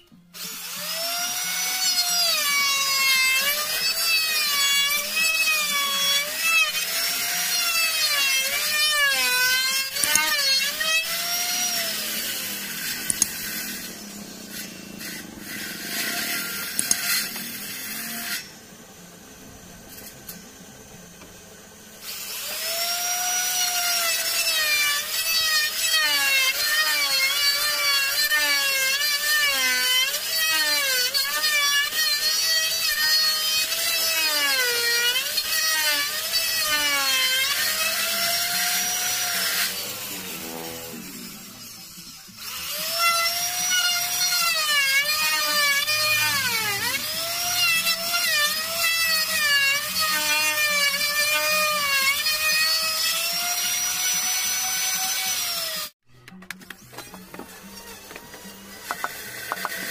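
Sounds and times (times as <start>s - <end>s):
router motor whine: 0.0s - 56.0s, 56.8s - 59.9s.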